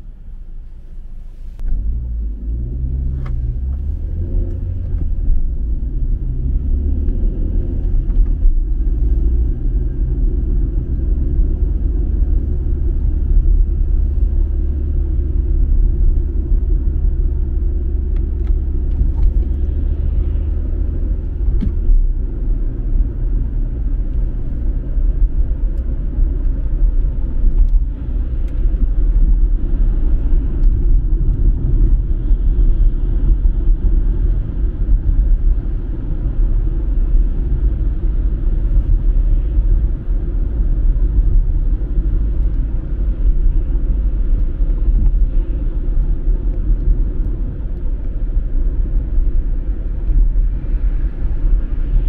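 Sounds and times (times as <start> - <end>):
car road and engine rumble: 0.0 - 52.0
deep hum: 0.0 - 52.0.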